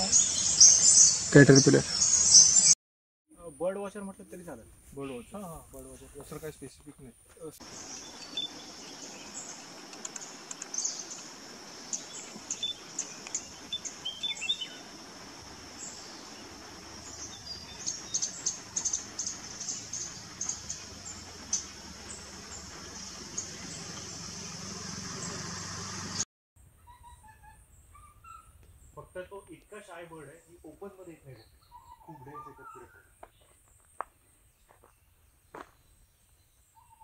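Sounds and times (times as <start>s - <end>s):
small birds chirping: 0.0s - 2.8s, 7.4s - 26.2s, 26.9s - 37.0s.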